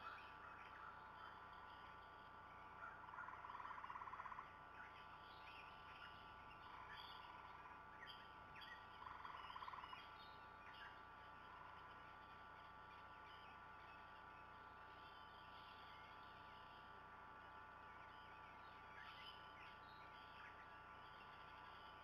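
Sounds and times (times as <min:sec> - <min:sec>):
faint bird chirps: 0:00.0 - 0:22.0.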